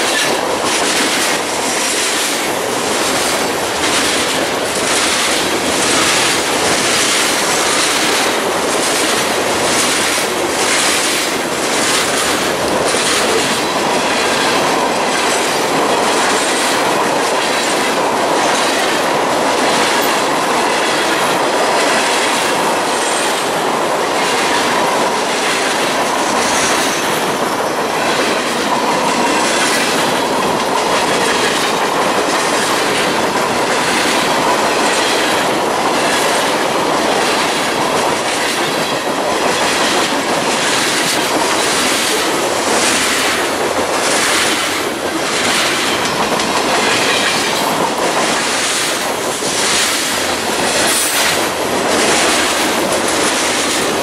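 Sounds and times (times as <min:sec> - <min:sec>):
train wheels clicking over rail joints: 0:00.0 - 0:54.0.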